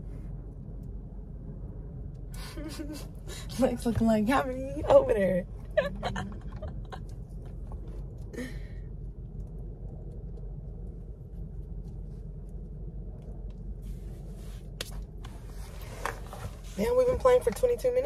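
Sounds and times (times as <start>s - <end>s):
car interior engine rumble: 0.0s - 18.0s.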